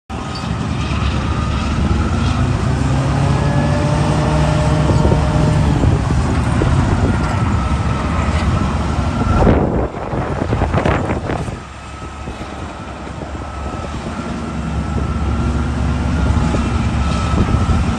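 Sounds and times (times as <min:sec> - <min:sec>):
diesel engine running: 0:00.1 - 0:17.9.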